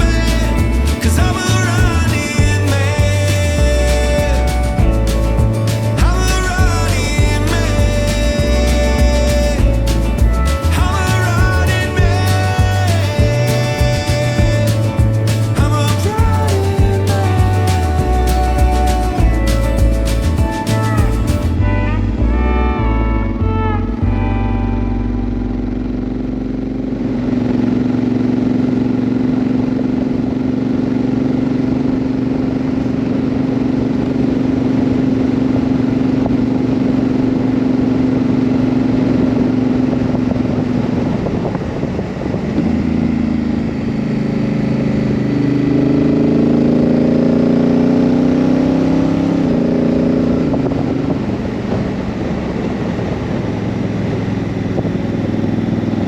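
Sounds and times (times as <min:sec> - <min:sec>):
motorcycle engine running and shifting: 0:00.0 - 0:56.0.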